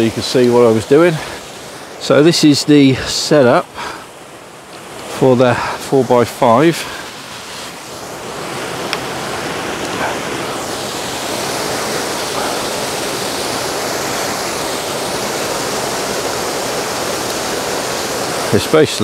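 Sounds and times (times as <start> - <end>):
waterfall pouring: 0.0 - 4.0, 4.9 - 19.0.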